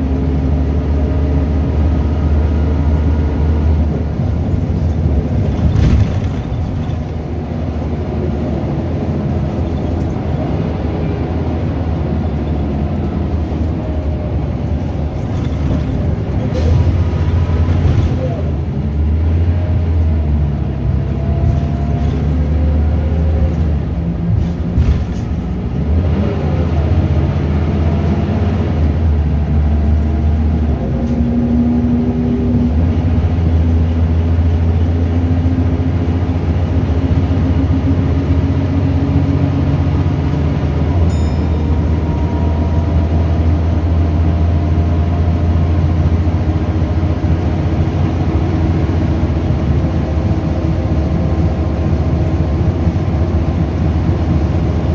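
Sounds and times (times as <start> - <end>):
bus diesel engine pulling: 0.0 - 54.9.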